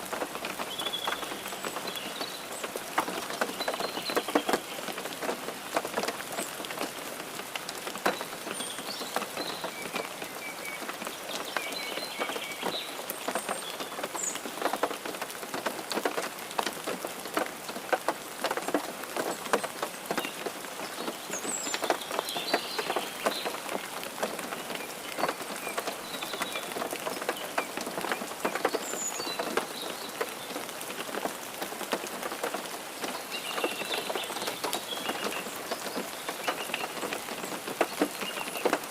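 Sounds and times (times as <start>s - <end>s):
rain pattering on hard surface: 0.0s - 38.9s.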